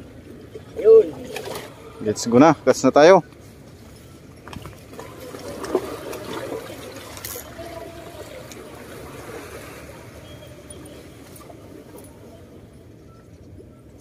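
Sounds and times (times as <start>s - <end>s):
seawater lapping among rocks: 0.0s - 14.0s.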